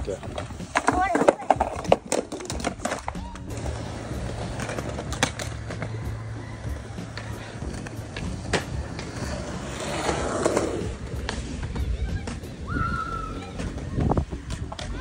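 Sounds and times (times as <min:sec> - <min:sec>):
skateboard clacking on ground: 0:00.0 - 0:12.6, 0:13.3 - 0:15.0
skateboard wheels rolling on concrete: 0:00.0 - 0:15.0.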